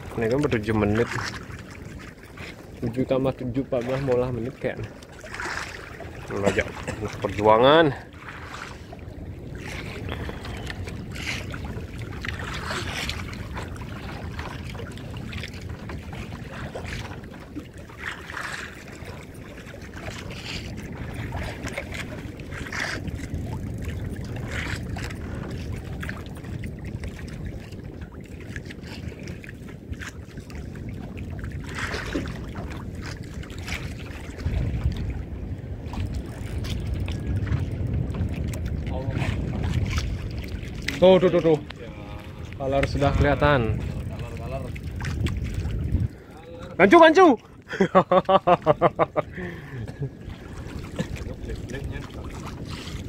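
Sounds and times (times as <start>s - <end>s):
low wind: 0.0s - 53.0s
sea noise: 0.0s - 53.0s
washes of water: 0.0s - 53.0s.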